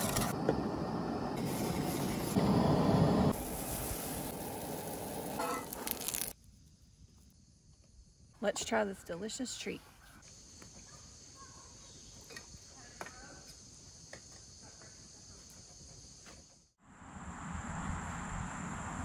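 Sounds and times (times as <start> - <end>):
insects trilling: 0.3 - 16.7.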